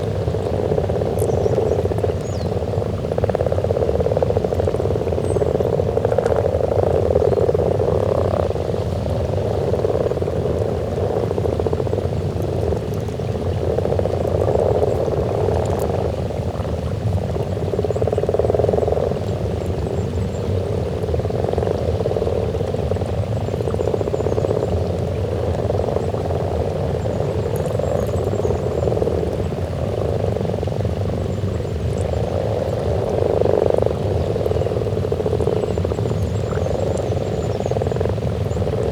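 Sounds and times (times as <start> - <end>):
chorus of frogs croaking: 0.0 - 38.9.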